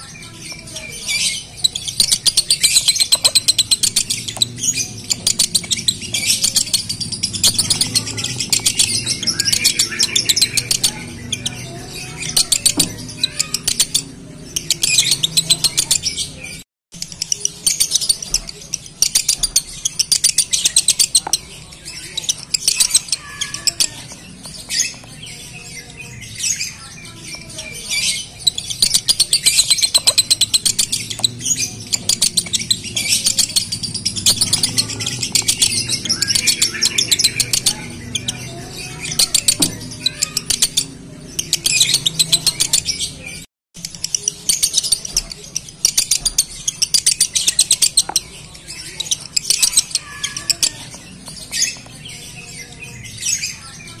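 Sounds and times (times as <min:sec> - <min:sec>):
lovebird chattering song: 0:00.0 - 0:54.0.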